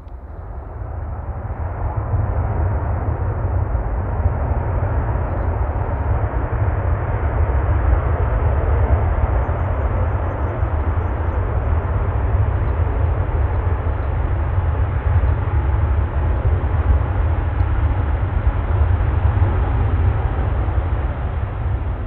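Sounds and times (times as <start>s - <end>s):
jet engines rumbling and hissing: 0.0s - 22.0s.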